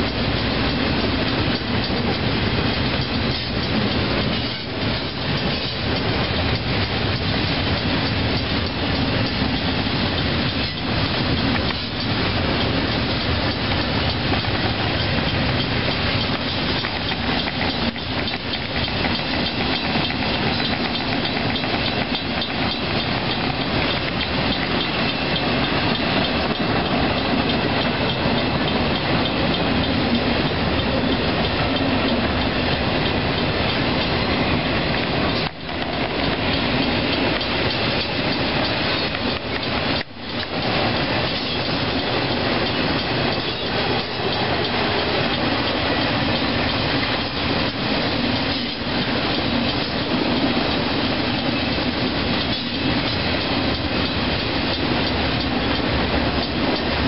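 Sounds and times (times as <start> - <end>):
freight train wheels rumbling on rail: 0.0 - 57.0
rail clacks: 0.0 - 57.0.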